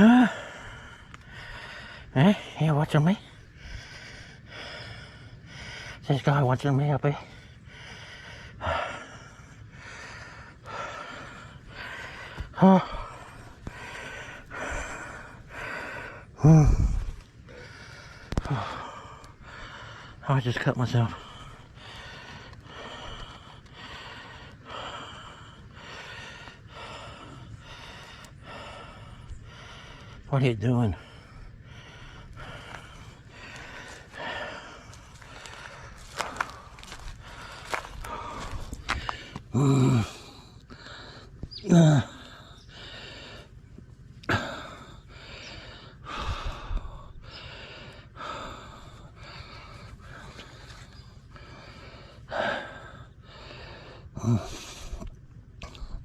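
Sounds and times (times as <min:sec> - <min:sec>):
man breathing heavily: 0:00.0 - 0:56.0.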